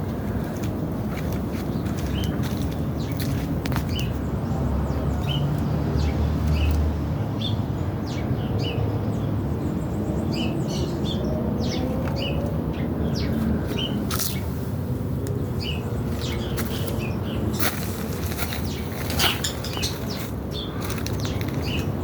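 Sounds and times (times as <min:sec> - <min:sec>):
small birds chirping: 0:00.2 - 0:22.0.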